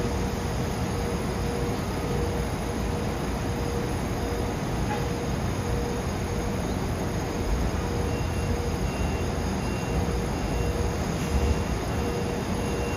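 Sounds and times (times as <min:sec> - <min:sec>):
rail yard rumble: 0:00.0 - 0:12.9.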